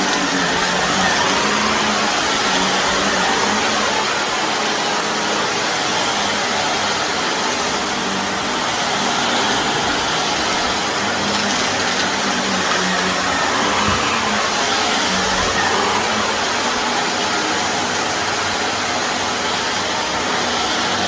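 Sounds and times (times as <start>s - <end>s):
vacuum cleaner running over carpet: 0.0s - 21.0s.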